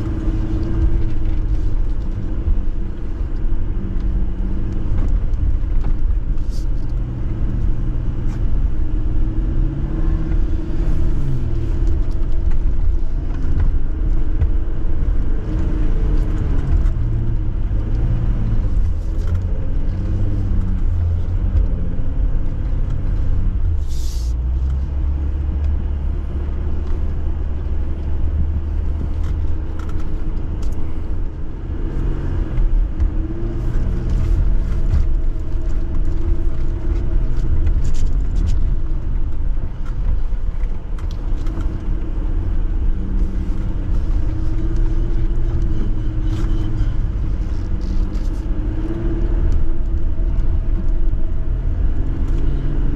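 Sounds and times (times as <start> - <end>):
vehicle engine rumbling: 0.0 - 52.9.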